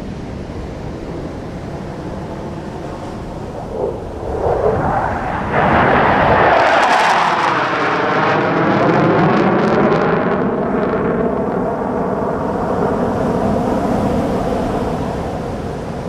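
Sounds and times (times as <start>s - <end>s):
fighter jet roar passing overhead: 0.0s - 16.0s.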